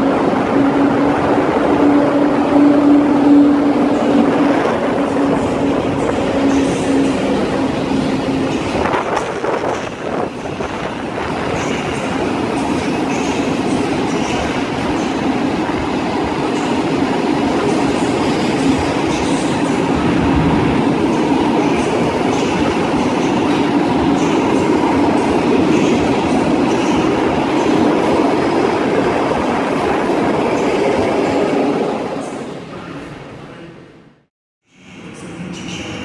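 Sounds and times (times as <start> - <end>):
train wheels rumbling on rail: 0.0 - 33.2.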